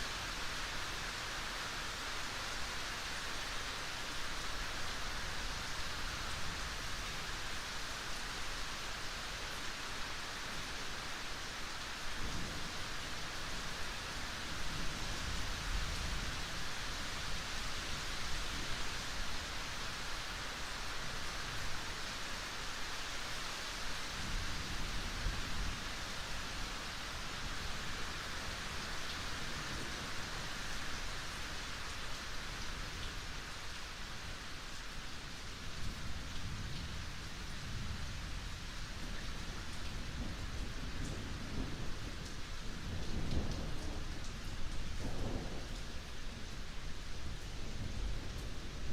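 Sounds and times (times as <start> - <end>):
rain: 0.0 - 48.9.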